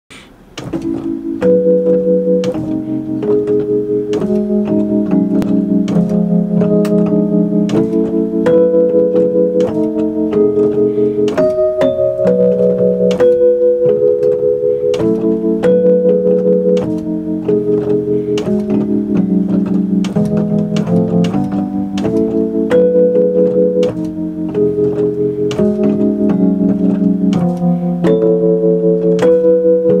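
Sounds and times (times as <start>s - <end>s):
electric piano jazz chords: 0.1s - 30.0s.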